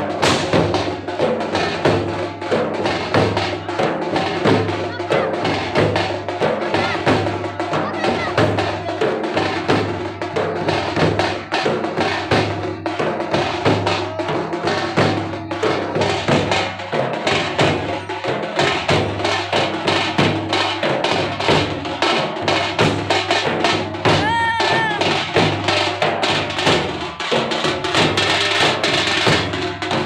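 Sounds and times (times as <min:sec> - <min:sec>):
drum percussion music: 0:00.0 - 0:30.0.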